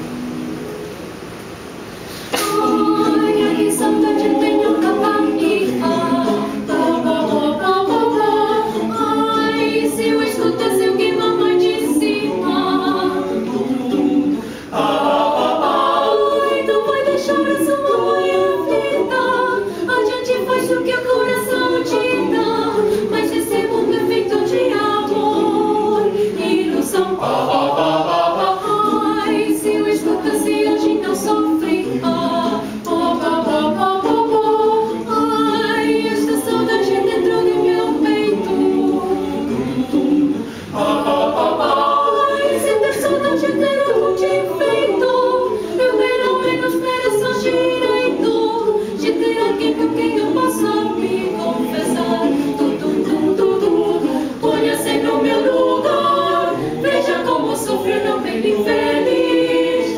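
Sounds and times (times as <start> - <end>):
mixed choir singing a cappella: 2.0 - 59.9.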